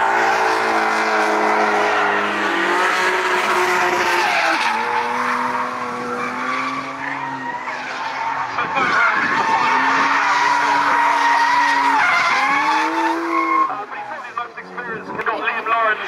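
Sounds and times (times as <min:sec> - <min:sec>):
car engine at high revs: 0:00.0 - 0:15.7
tyres squealing and skidding: 0:00.0 - 0:16.0.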